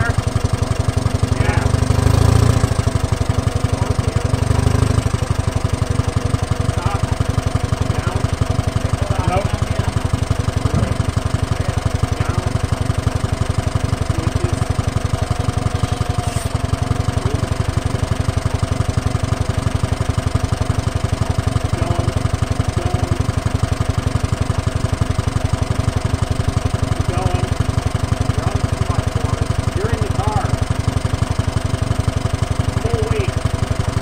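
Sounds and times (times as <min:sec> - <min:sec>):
forklift engine idling: 0:00.0 - 0:34.0.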